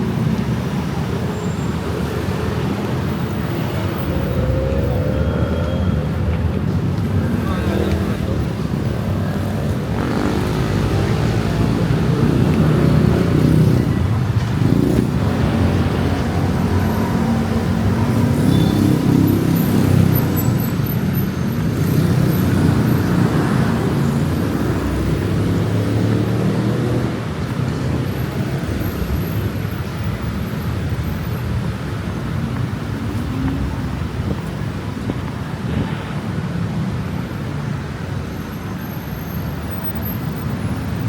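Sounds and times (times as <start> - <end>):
cars passing on busy road: 0.0 - 41.0.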